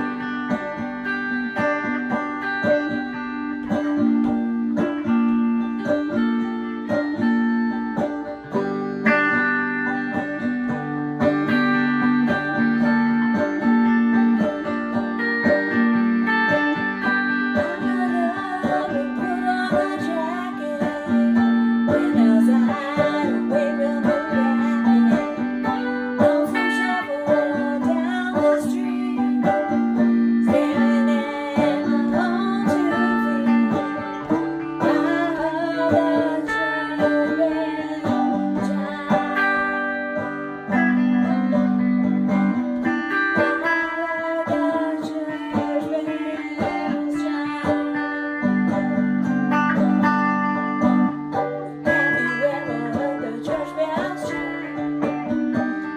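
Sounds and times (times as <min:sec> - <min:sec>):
electric guitar: 0:00.0 - 0:55.9
electrified banjo: 0:00.0 - 0:55.9.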